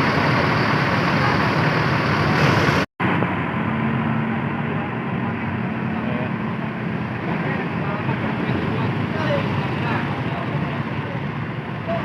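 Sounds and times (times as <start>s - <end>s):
vehicles at bus terminal: 0.0s - 12.0s.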